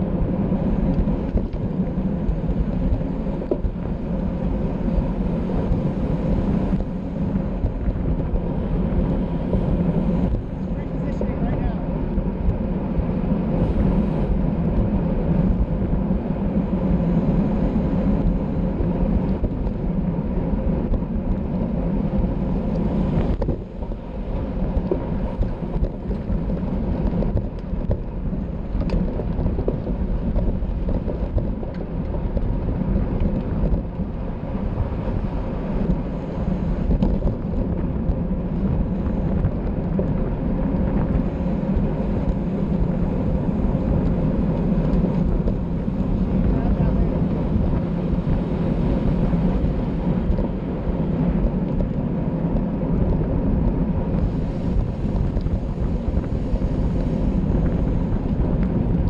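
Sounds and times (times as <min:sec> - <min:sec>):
wind rushing on microphone: 0:00.0 - 0:59.0.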